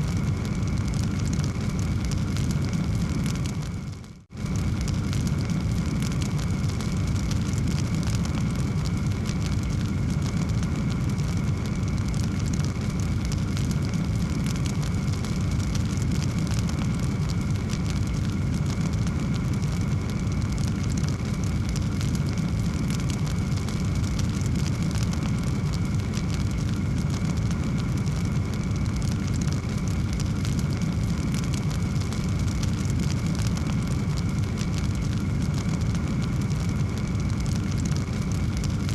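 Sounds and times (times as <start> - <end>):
fire crackling: 0.0 - 38.9
fire flames rumbling: 0.0 - 38.9.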